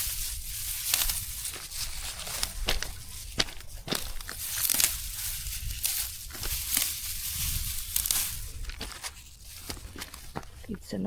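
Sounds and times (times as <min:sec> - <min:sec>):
dry grass rustling and tearing: 0:00.0 - 0:11.0.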